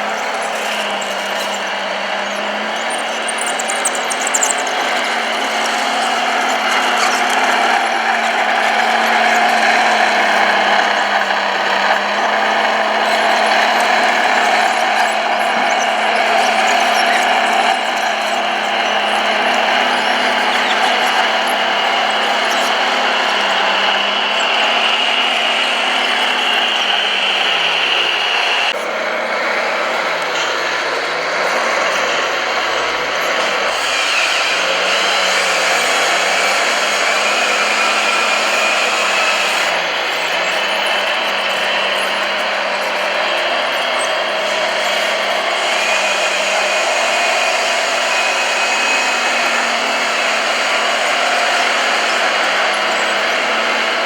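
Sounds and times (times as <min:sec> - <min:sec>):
small electric motors whirring: 0:00.0 - 0:54.0.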